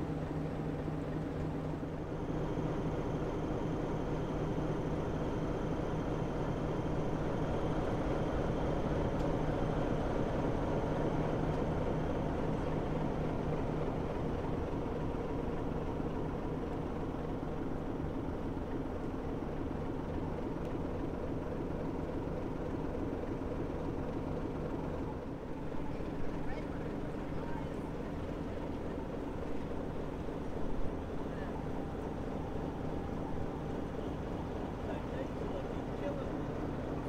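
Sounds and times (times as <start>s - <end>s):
diesel locomotive engine idling: 0.0s - 37.0s.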